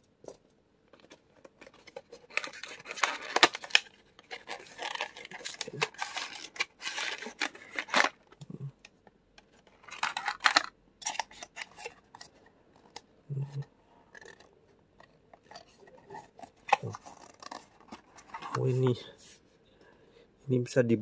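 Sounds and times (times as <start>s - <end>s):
packaging rustling and scraping: 0.9s - 8.4s, 9.5s - 19.4s.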